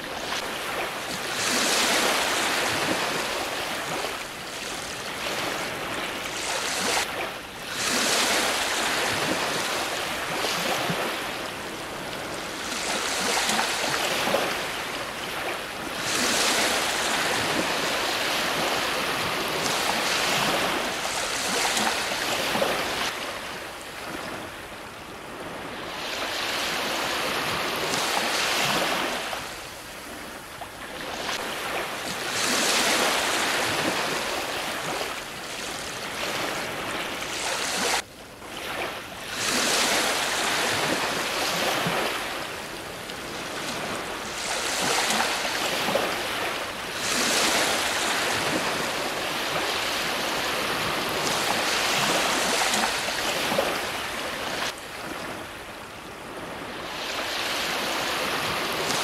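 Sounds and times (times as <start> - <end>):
ocean surf breaking: 0.0 - 23.5, 31.0 - 38.0, 38.6 - 55.5.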